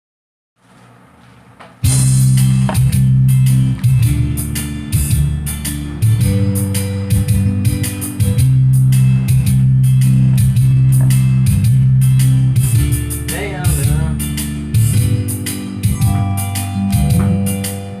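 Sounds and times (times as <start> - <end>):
bass guitar: 1.8 - 18.0
drum kit with cymbal strikes: 1.8 - 18.0
guitar: 1.8 - 18.0
wavering melodic line: 3.1 - 18.0.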